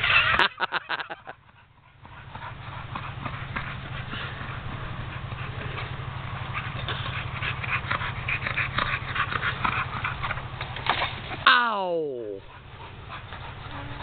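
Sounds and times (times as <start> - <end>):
dog sounds: 1.5 - 10.8, 12.0 - 14.0.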